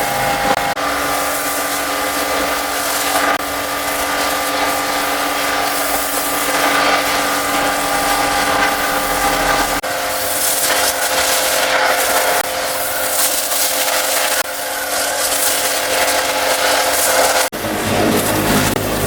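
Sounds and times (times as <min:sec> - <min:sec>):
pressure washer motor whine: 0:00.0 - 0:19.0
water jet hissing: 0:00.0 - 0:19.0.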